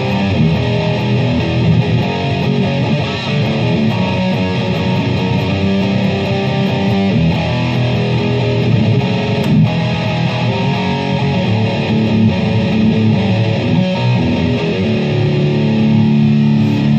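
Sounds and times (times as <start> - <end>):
electric guitar riff: 0.0 - 16.9.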